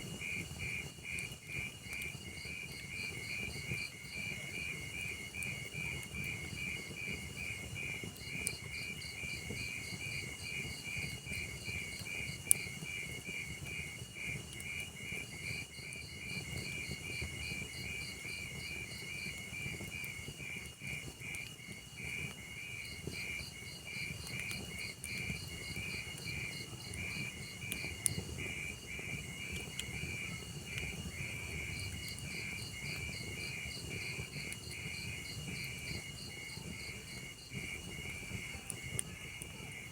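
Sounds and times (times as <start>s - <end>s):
log fire rumbling: 0.0s - 39.9s
burning logs popping: 3.2s - 39.9s
crickets chirping: 6.2s - 39.9s.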